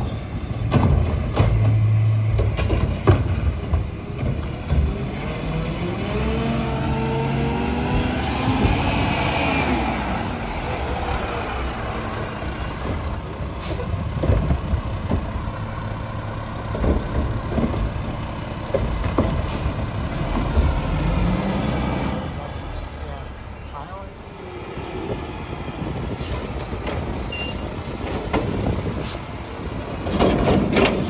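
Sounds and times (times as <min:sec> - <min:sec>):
garbage truck engine: 0:00.0 - 0:31.0.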